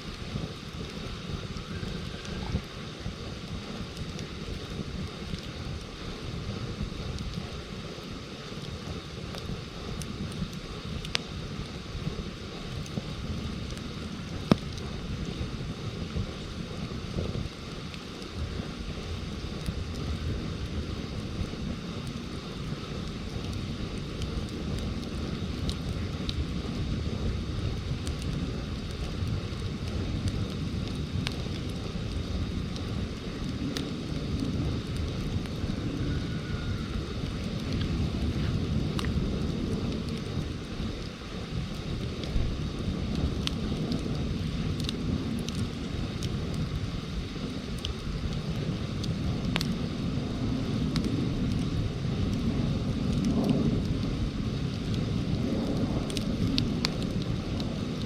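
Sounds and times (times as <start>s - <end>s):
campfire crackling: 0.0s - 58.0s
low fire rumble: 0.0s - 58.0s.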